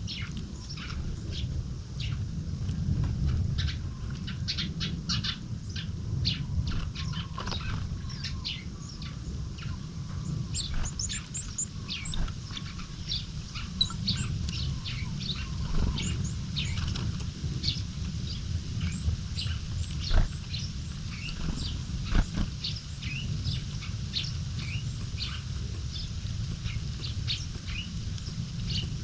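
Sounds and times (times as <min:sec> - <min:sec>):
songbirds chirping: 0:00.0 - 0:29.0
steady low rumble: 0:00.0 - 0:29.0.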